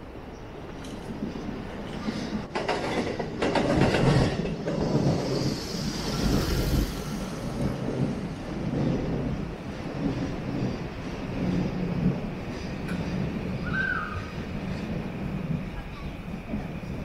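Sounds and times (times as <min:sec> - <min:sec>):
train rumble: 0:00.0 - 0:17.0
train wheels clicking on rails: 0:00.4 - 0:17.0.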